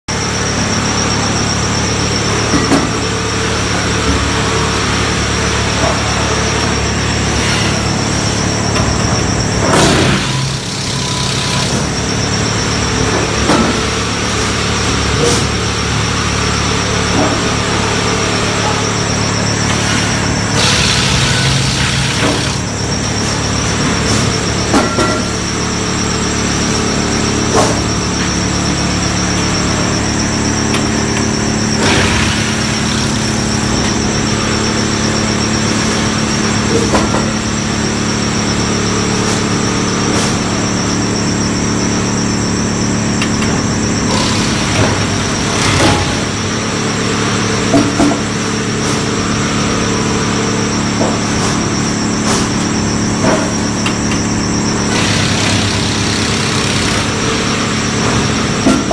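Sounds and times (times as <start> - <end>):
milling machine running: 0.1 - 48.4, 51.8 - 58.9.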